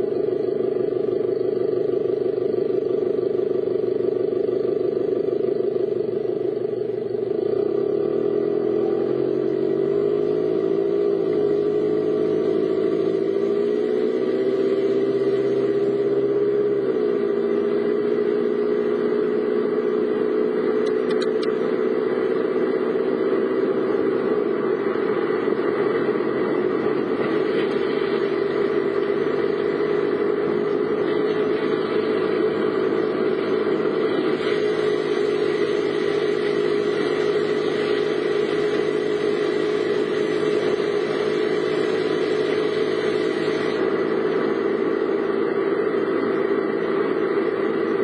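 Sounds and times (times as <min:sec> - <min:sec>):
car engine running: 0:00.0 - 0:48.0
road noise hiss: 0:00.0 - 0:48.0.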